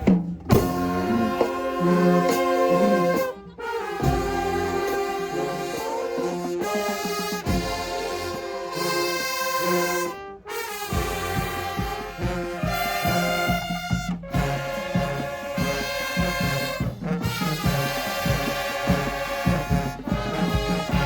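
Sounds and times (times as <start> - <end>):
brass section holding chords: 0.0 - 21.0
steady drum beat: 0.0 - 21.0.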